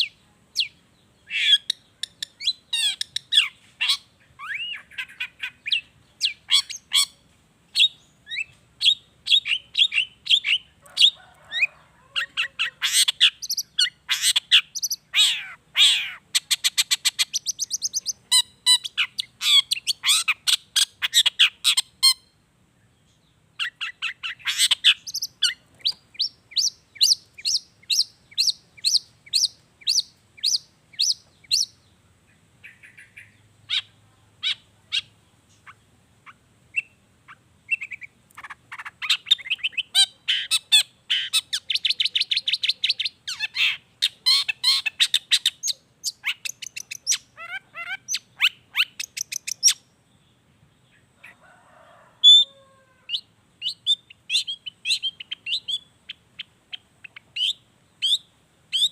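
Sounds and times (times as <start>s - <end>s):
shrike singing and chattering: 0.0s - 22.4s, 23.0s - 50.0s, 53.1s - 58.9s.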